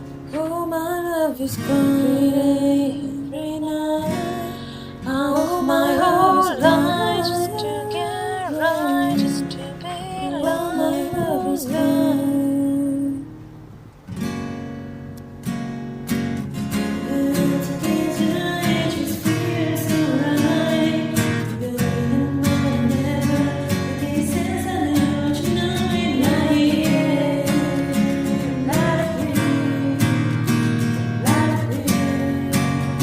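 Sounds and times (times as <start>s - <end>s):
strummed acoustic guitar: 0.0s - 33.0s
person singing: 0.3s - 13.3s, 16.9s - 30.6s, 31.2s - 33.0s.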